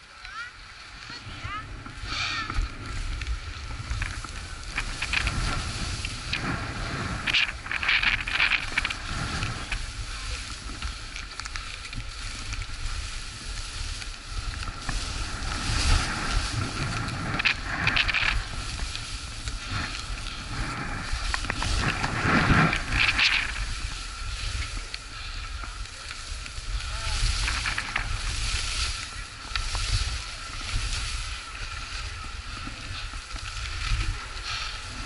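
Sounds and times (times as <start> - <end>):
skis scraping over snow: 0.0 - 35.0
wind buffeting microphone: 0.0 - 35.0.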